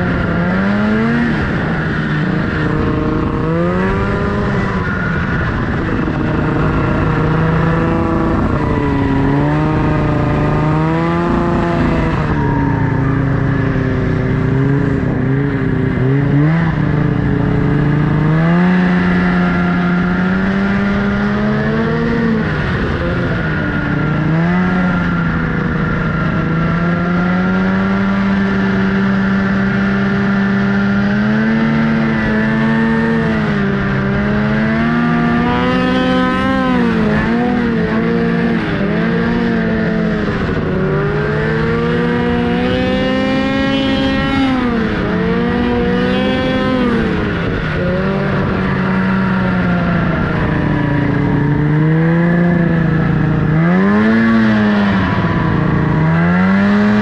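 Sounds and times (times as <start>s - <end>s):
snowmobile engine revving: 0.0s - 57.0s
steady rushing noise: 0.0s - 57.0s.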